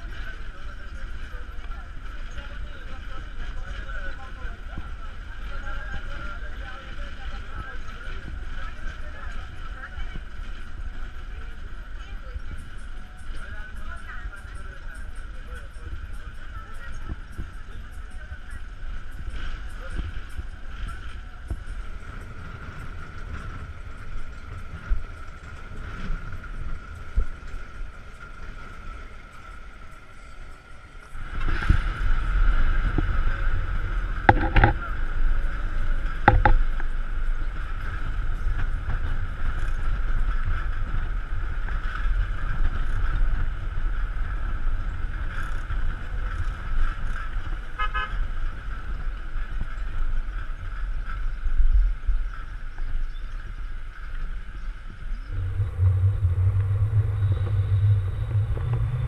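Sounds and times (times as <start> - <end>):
bus engine and road noise: 0.0 - 59.0
wind on microphone: 0.0 - 59.0.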